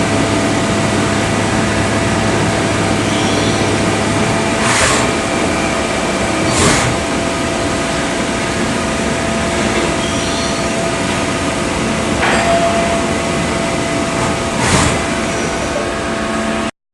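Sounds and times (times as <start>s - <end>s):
lathes running: 0.0s - 15.9s
machine whining tones: 0.0s - 16.7s.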